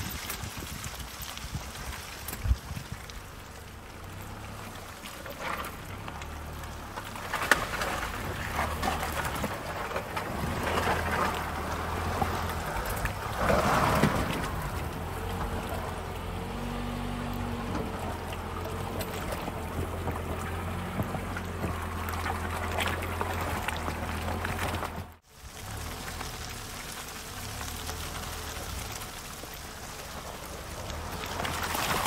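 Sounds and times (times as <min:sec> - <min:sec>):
low engine hum: 0:00.0 - 0:32.0
water sloshing and splashing: 0:00.0 - 0:32.0.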